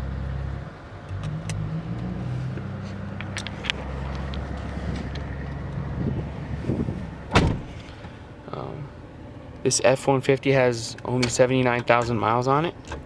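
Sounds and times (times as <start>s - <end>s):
truck engine humming: 0.0s - 13.0s.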